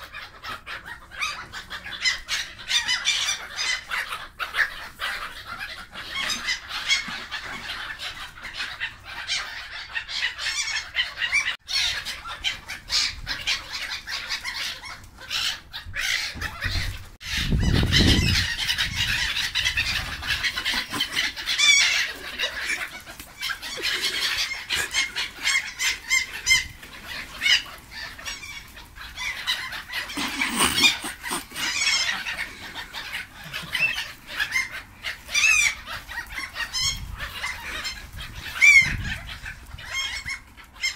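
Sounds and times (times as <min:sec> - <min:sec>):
gulls calling: 0:00.0 - 0:40.9.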